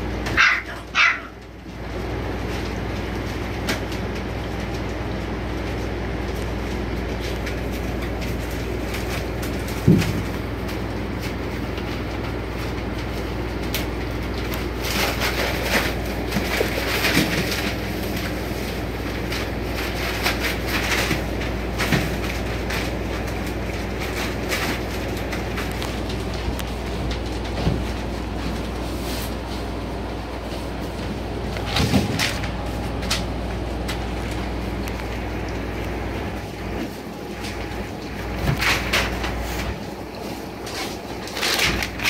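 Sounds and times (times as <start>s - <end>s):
steady low hum: 0.0s - 42.0s
newspaper crinkling and rustling: 5.7s - 42.0s.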